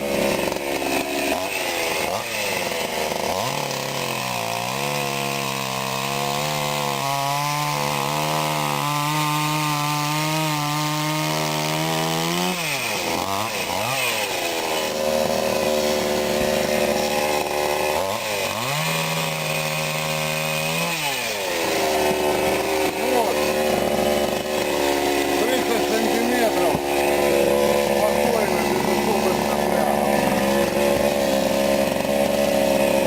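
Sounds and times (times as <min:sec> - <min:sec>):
chainsaw sawing logs: 0:00.0 - 0:33.0.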